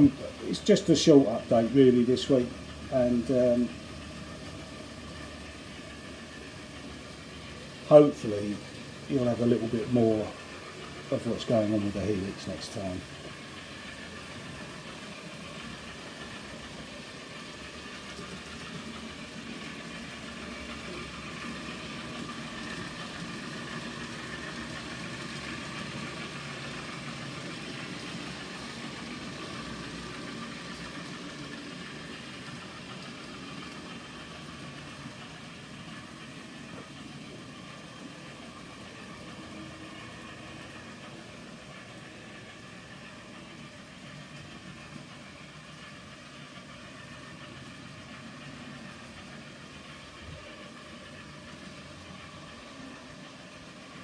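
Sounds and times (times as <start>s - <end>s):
model train motor hum: 0.0s - 54.0s
model train wheel noise: 0.0s - 54.0s.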